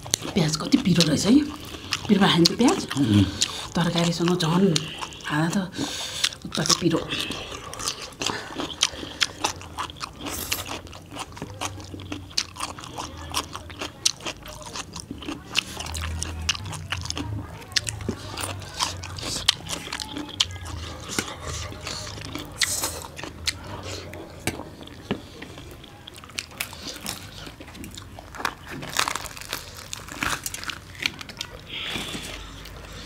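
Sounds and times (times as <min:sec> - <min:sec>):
people chewing food: 0:00.0 - 0:33.0.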